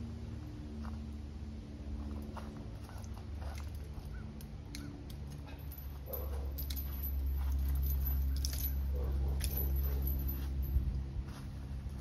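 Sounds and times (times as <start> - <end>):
steady low hum: 0.0 - 12.0
hands handling rope: 2.0 - 12.0.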